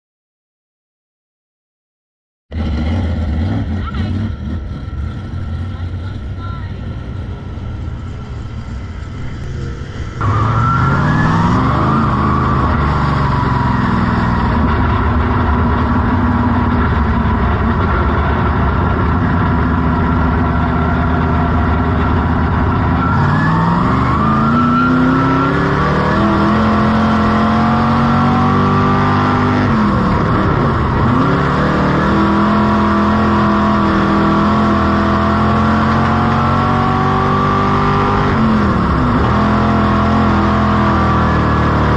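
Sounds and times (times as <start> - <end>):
race car engine accelerating: 2.5 - 41.9.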